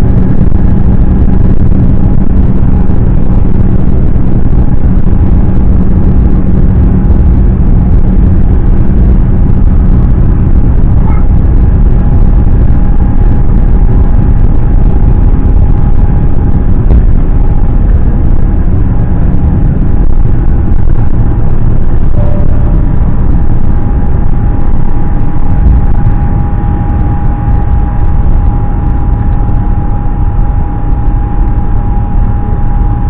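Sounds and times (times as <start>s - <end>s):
faint steady hum: 0.0s - 33.0s
jet engine rumble: 0.0s - 33.0s.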